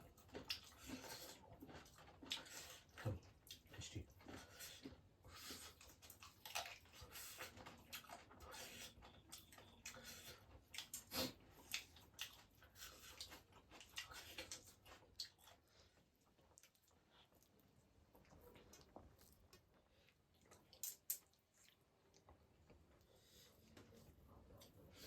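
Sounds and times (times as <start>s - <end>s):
soft chewing: 0.0s - 25.0s.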